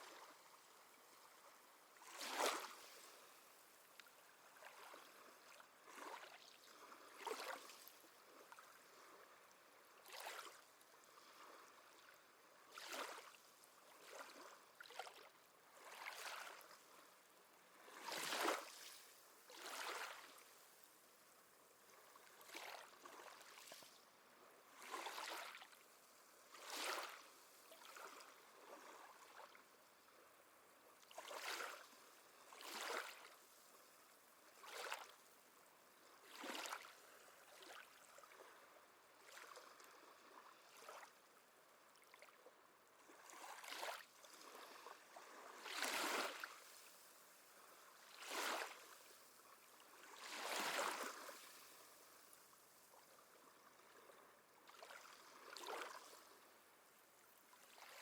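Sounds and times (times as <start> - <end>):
small waves lapping at shore: 0.0 - 58.0.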